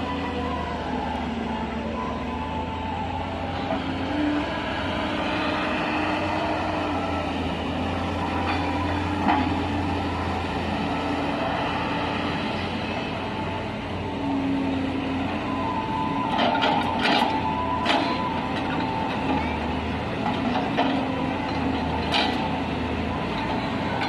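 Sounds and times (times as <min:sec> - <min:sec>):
heavy machinery engine drone: 0:00.0 - 0:24.0.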